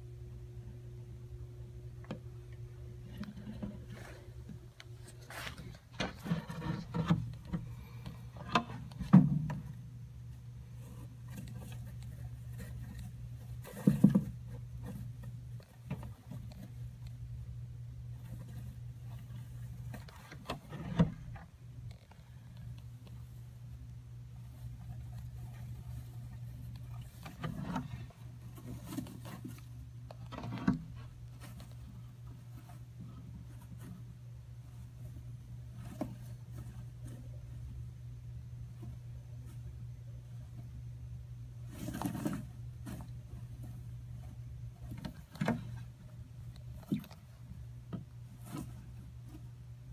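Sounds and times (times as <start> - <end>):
steady low hum: 0.0 - 49.9
lizard rustling and scraping substrate: 3.0 - 17.1, 17.9 - 21.6, 22.3 - 49.9.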